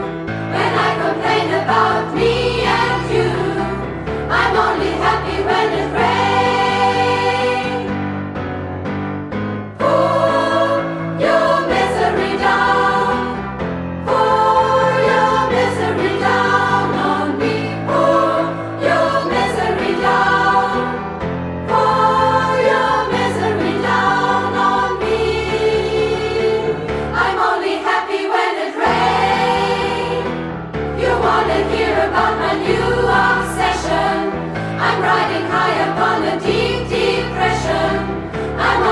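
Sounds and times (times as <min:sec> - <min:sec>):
women's choir singing: 0:00.0 - 0:08.0, 0:09.8 - 0:38.9.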